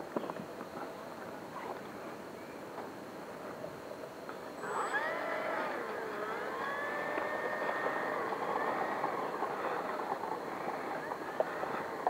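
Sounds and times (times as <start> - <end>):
electric motor and propeller whine: 1.4 - 12.0.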